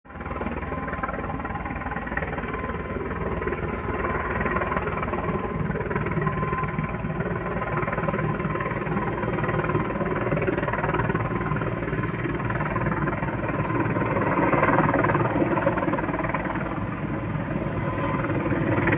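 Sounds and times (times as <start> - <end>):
helicopter rotor and engines: 0.0 - 18.9.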